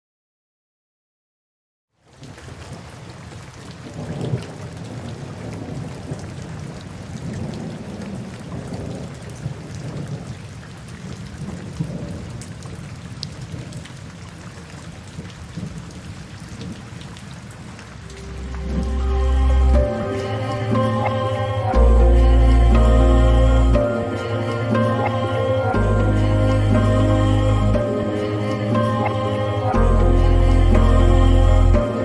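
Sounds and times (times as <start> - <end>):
steady rain: 2.0 - 32.0.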